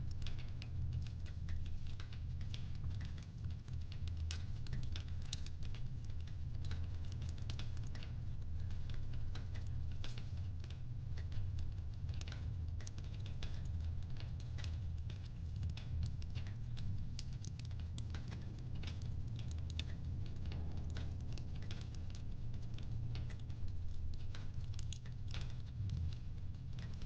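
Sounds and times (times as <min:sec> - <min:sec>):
fireplace crackling and popping: 0:00.0 - 0:27.0
steady low hum: 0:00.0 - 0:27.0.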